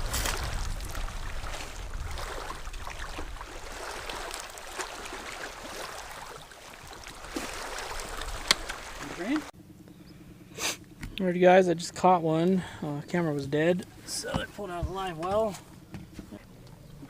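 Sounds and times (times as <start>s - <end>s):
water lapping around a boat: 0.0s - 9.6s, 12.4s - 17.0s.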